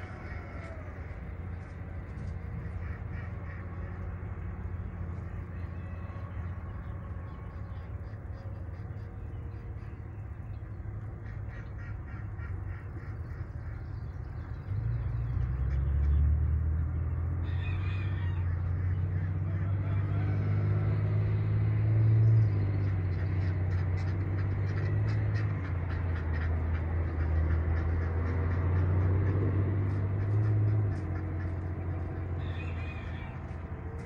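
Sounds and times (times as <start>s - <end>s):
steady low rumble: 0.0s - 20.6s, 21.3s - 34.0s
farm birds and ducks calling: 0.0s - 34.0s.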